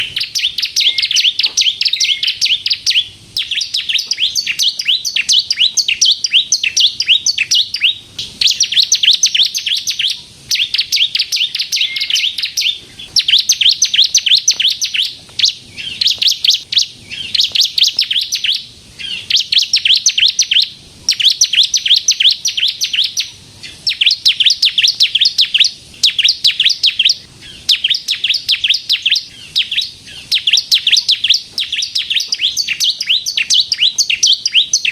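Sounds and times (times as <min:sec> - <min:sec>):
bird singing chattering trills: 0:00.0 - 0:34.9.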